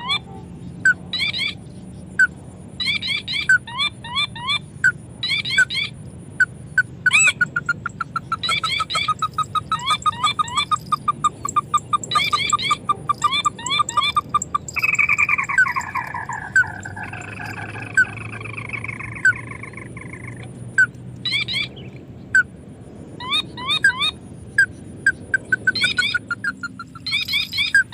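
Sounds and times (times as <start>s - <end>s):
crake calling: 2.2s - 22.5s, 23.2s - 27.9s.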